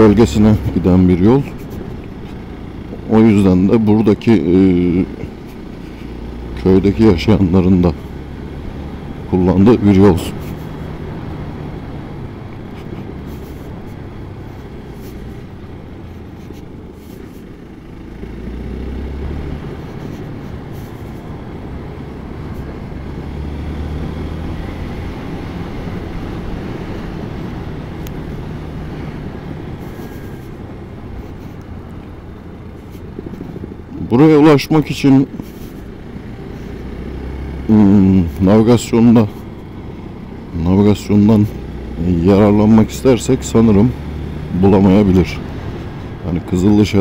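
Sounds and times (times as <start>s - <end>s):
motorcycle engine running: 0.0s - 34.7s, 35.3s - 47.0s.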